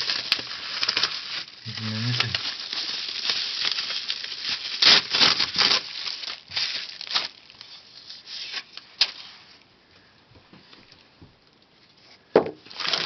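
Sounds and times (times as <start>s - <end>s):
bubble wrap rustling and crinkling: 0.0s - 9.7s, 10.6s - 13.0s.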